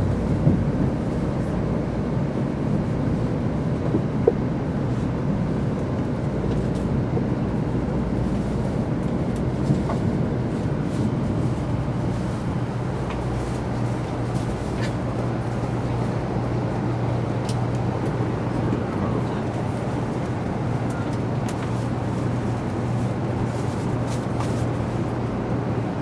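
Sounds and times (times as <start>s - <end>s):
train cabin rumble and hum: 0.0s - 26.0s.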